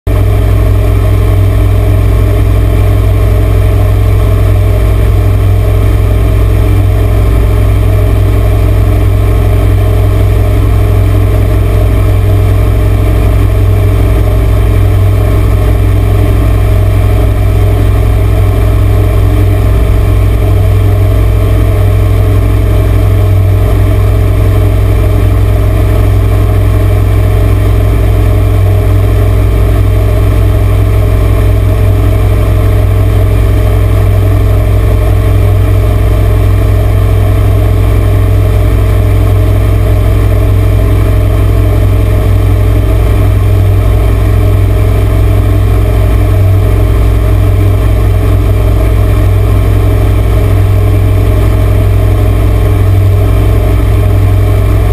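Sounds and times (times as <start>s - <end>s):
boat engine droning: 0.1s - 54.9s.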